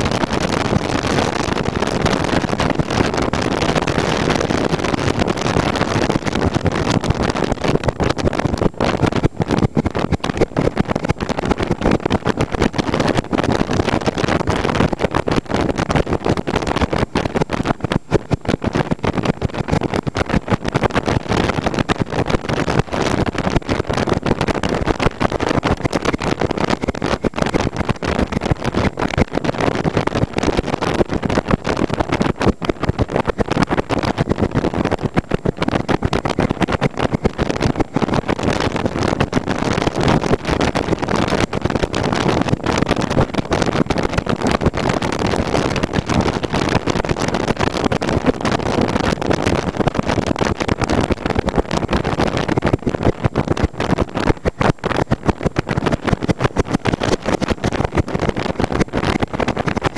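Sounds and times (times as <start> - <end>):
wind buffeting microphone: 0.0 - 59.9
wind rush: 0.0 - 59.9.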